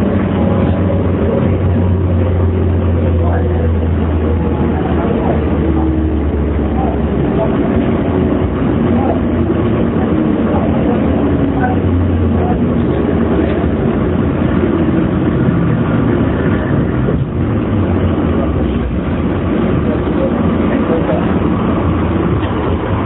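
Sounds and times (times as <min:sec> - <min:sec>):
air conditioning running: 0:00.0 - 0:23.0
train wheels rumbling on rails: 0:00.0 - 0:23.0
wind-like noise: 0:00.0 - 0:23.0.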